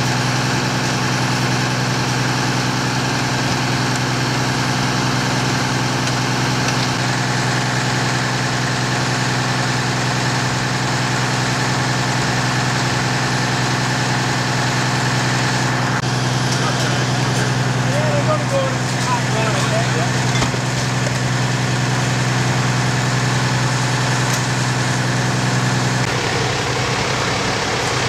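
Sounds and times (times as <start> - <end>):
fire engine idling: 0.0 - 28.0.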